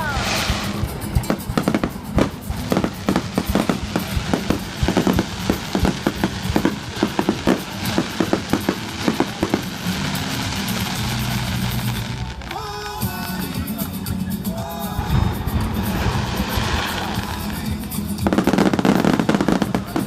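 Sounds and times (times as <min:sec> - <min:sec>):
fireworks bangs and crackles: 0:00.0 - 0:13.9, 0:14.9 - 0:20.0
music playing: 0:00.0 - 0:20.0.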